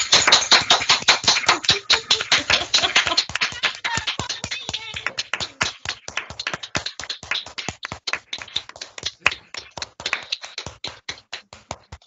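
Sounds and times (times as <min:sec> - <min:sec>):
people clapping over a video call: 0:00.0 - 0:12.0.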